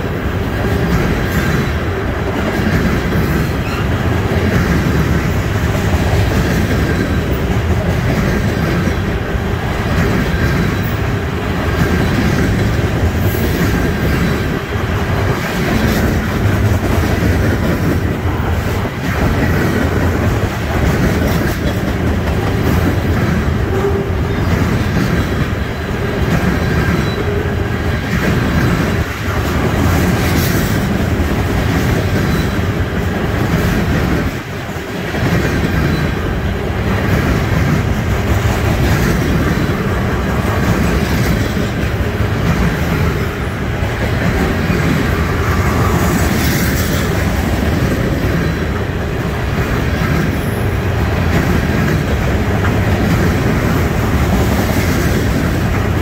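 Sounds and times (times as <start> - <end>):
steel wheels rumbling on rail: 0.0 - 56.0
wheels clacking on rail joints: 0.0 - 56.0.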